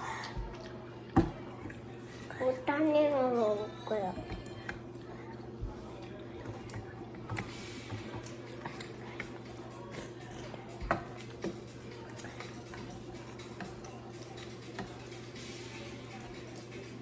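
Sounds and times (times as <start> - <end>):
chewing and mouth noises: 0.0 - 2.3, 4.4 - 17.0.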